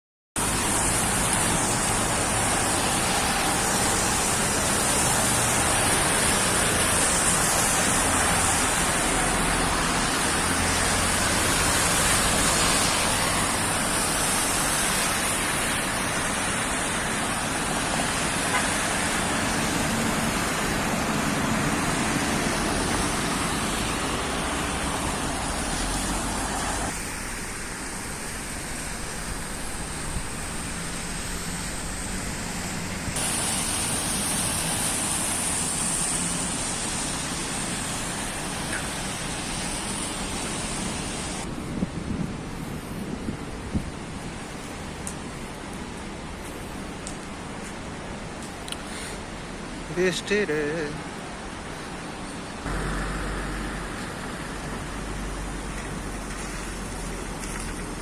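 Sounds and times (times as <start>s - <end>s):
rain falling: 0.4s - 58.0s
traffic on wet roads: 0.4s - 58.0s.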